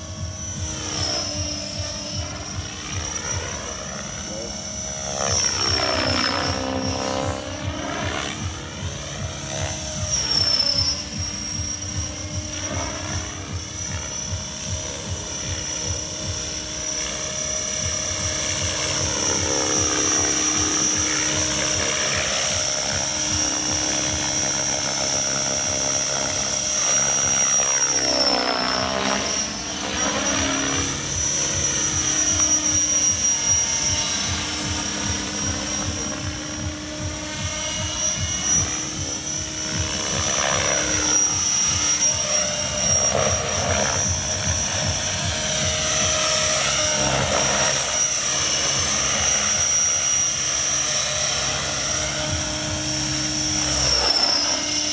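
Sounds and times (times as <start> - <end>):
fast rotor chop: 0.0 - 54.9
model helicopter whine: 0.0 - 54.9.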